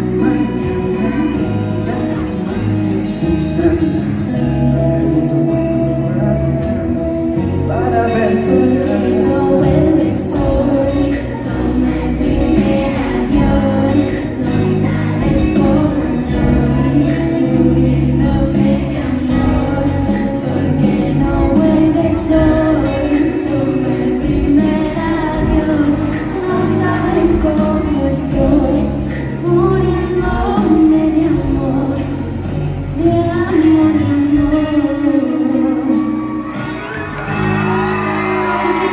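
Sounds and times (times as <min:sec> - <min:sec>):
bass: 0:00.0 - 0:38.9
drums: 0:00.0 - 0:38.9
woman singing: 0:07.7 - 0:38.9.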